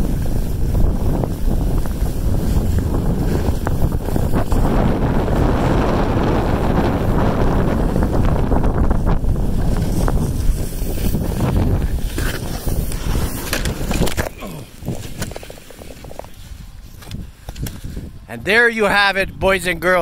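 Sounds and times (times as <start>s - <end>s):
rustling in snow: 0.0s - 18.1s
wind buffeting microphone: 0.0s - 20.0s.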